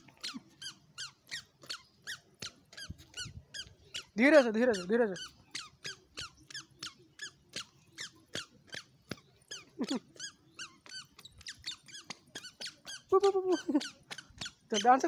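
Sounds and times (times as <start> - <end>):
squeaker shoes squeaking: 0.0 - 15.0.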